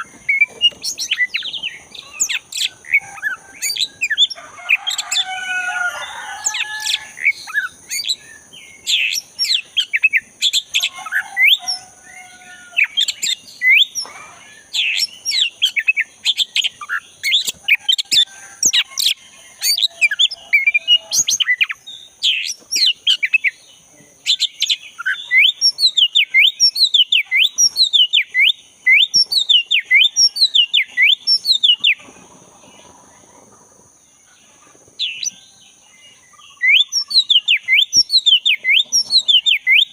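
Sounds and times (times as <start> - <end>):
bird singing whistled notes: 0.0 - 5.3, 5.9 - 32.0, 35.0 - 39.9.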